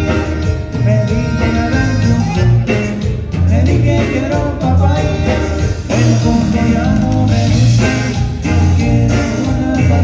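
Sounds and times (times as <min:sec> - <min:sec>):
live band with accordion: 0:00.0 - 0:10.0.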